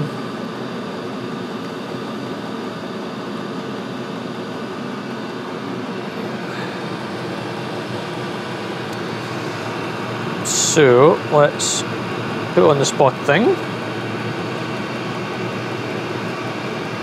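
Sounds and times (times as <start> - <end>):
diesel heater droning: 0.0 - 17.0.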